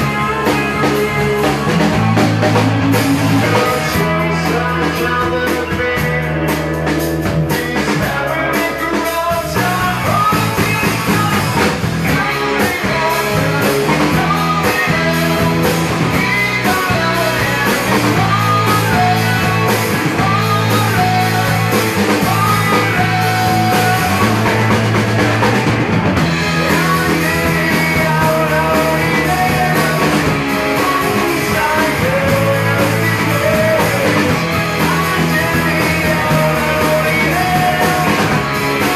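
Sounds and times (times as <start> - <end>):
man singing into microphone: 0.0 - 25.0, 26.3 - 38.9
drums: 0.0 - 38.9
electric guitars: 0.0 - 38.9.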